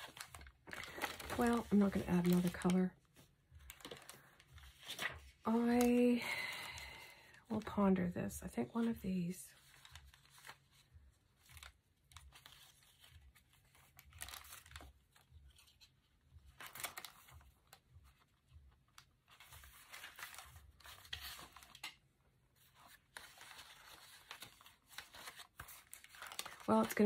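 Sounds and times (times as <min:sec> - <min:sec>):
paper pages being leafed through: 0:00.0 - 0:07.9, 0:09.6 - 0:27.0.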